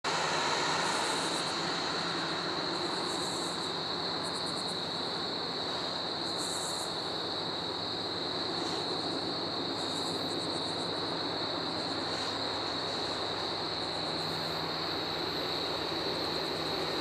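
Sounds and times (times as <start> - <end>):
freight train rumble: 0.0 - 17.0
high insect drone: 0.0 - 17.0.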